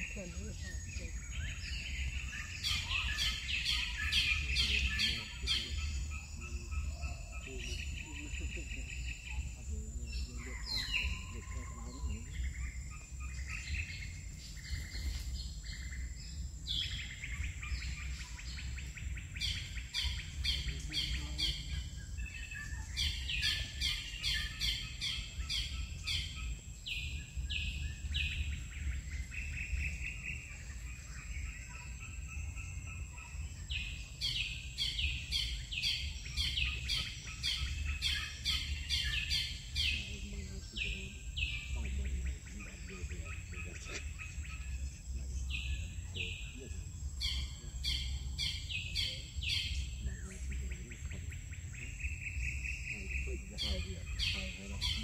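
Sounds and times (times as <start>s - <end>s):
birds chirping: 0.0s - 55.0s
low rumble: 0.0s - 55.0s.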